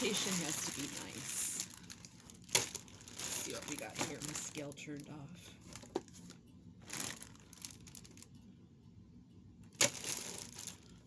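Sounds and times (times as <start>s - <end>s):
plastic bag rustling: 0.0s - 8.3s, 9.7s - 11.0s.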